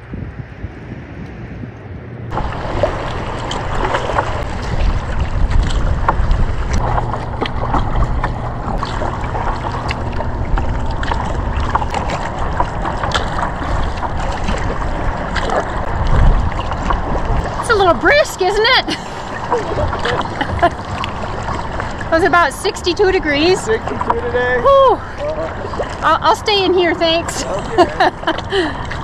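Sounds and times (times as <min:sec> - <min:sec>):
water drips and plinks: 0:02.3 - 0:29.0
water splashing around kayak: 0:02.3 - 0:29.0.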